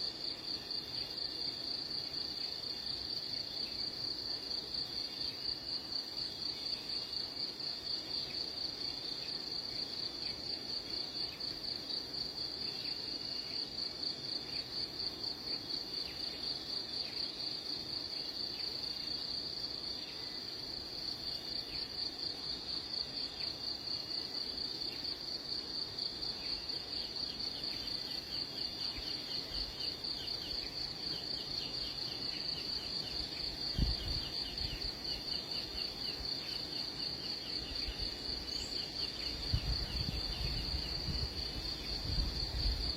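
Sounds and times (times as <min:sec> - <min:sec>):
insect trill: 0:00.0 - 0:42.9.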